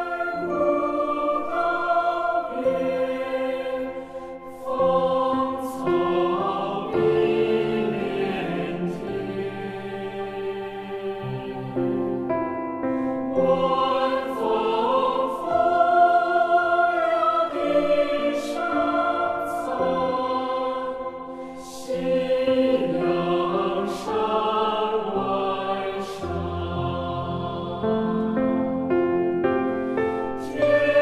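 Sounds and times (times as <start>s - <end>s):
choir singing held chords: 0.0s - 31.0s.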